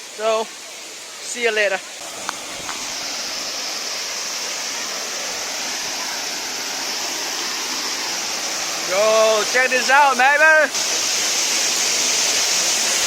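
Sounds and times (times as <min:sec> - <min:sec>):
waterfall splashing: 0:00.0 - 0:13.0.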